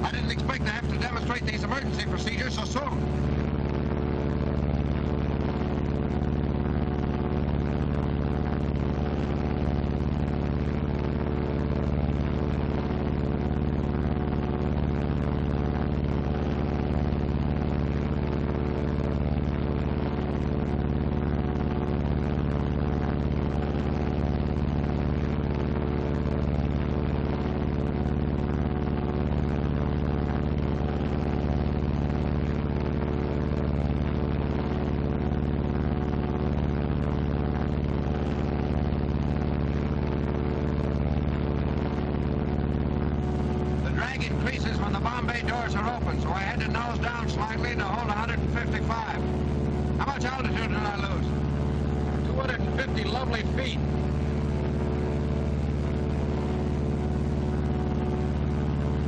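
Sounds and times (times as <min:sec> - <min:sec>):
aircraft engine drone in flight: 0:00.0 - 0:59.0.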